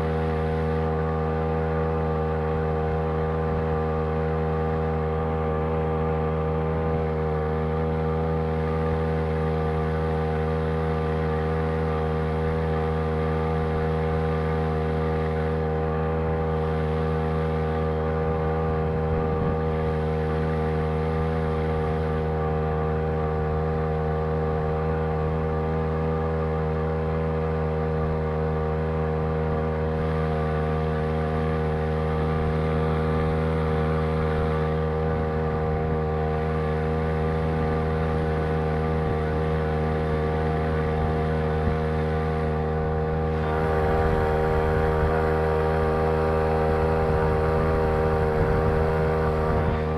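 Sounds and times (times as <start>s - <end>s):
outboard motor whining: 0.0s - 49.9s.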